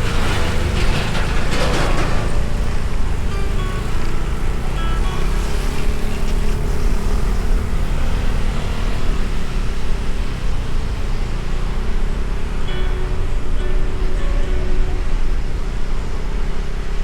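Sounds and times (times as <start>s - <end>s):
motorbike engine rumble: 0.0s - 17.0s
road and wind noise: 0.0s - 17.0s.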